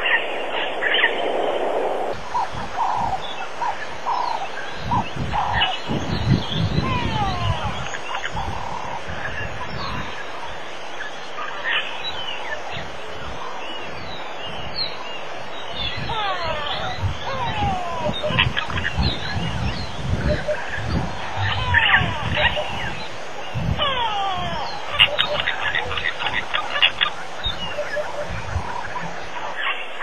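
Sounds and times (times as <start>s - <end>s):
wild birds calling: 0.0s - 30.0s.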